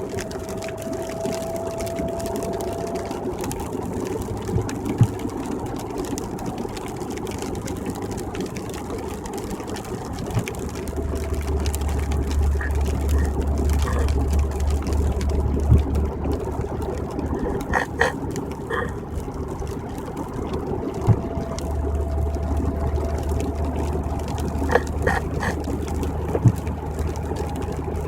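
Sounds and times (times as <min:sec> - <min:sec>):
deep rumble: 0:00.0 - 0:28.0
engine and road drone: 0:00.0 - 0:28.0.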